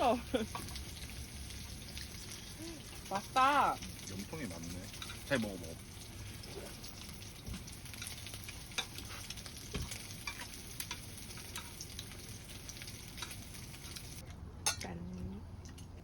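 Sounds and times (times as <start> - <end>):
intestines sizzling: 0.0 - 14.2.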